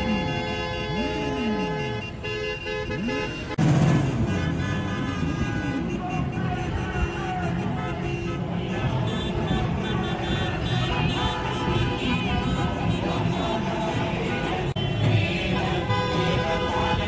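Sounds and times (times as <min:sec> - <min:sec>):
car horns blaring: 0:00.0 - 0:17.0
engines revving: 0:00.0 - 0:17.0.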